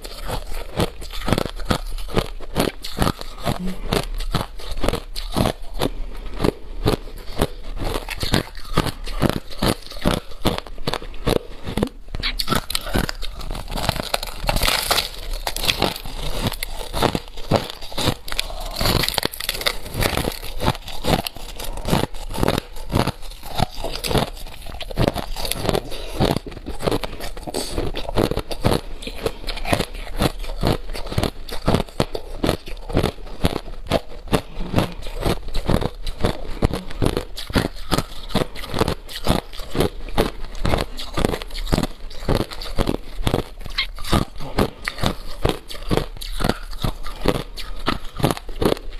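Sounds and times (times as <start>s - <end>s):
chewing crushed ice: 0.0s - 48.9s.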